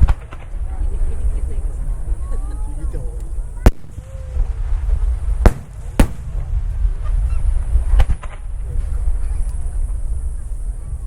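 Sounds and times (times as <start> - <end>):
fireworks bangs: 0.0 - 11.0
low rumble: 0.0 - 11.0.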